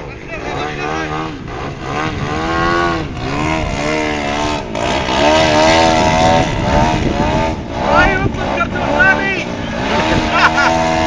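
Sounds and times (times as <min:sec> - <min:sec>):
model plane engine and propeller: 0:00.0 - 0:11.0.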